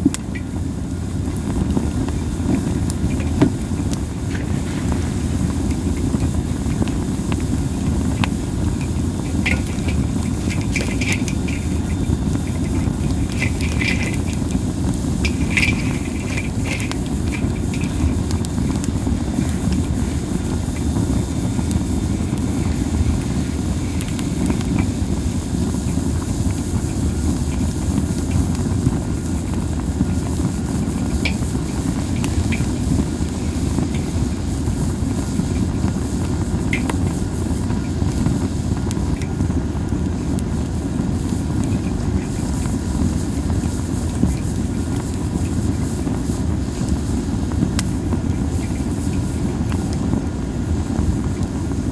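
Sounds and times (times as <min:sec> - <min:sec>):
burning wood crackling pops: 0:00.0 - 0:51.9
wind rumble on microphone: 0:00.0 - 0:51.9.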